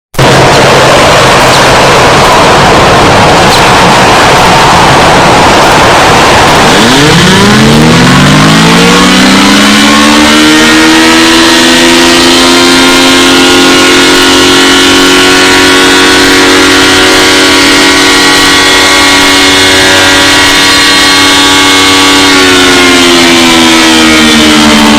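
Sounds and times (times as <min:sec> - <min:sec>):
loud alarm siren: 0:00.2 - 0:24.9.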